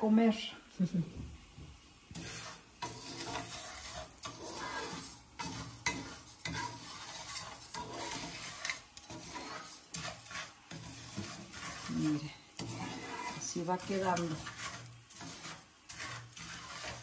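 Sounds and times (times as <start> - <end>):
oil sizzling: 0.0 - 17.0
spoon scraping rice in pan: 2.1 - 17.0.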